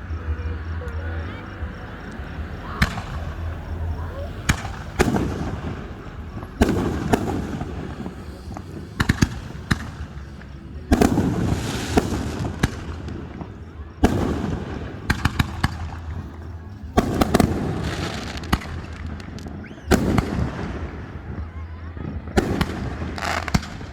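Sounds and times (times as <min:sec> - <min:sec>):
fireworks bursting with echo: 0:00.0 - 0:23.9
hissing crackle of fireworks: 0:00.0 - 0:23.9.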